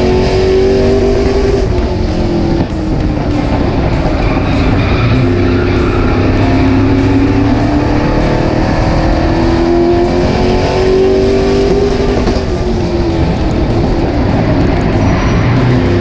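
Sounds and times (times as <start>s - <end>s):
race car engine at speed: 0.0s - 16.0s.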